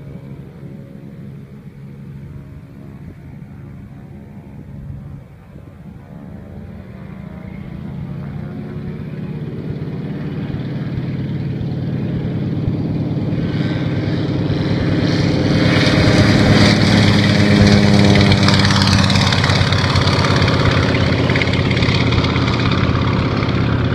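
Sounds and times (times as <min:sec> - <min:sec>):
propeller plane engine: 0:00.0 - 0:23.9.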